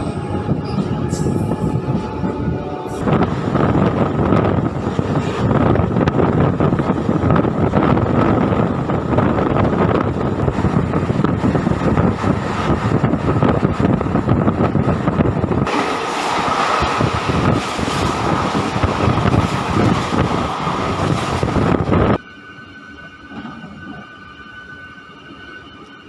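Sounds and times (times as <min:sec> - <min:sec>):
electric train rumbling and rattling: 0:00.0 - 0:26.0.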